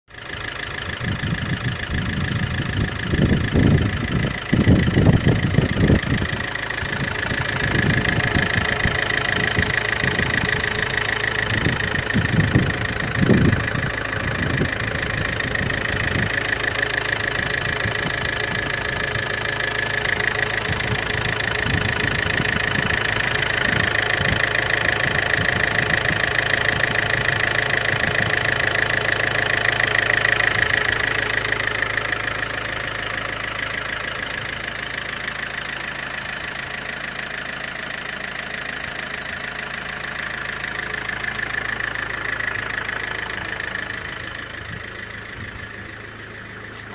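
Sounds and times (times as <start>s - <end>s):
diesel engine idling: 0.1s - 46.9s.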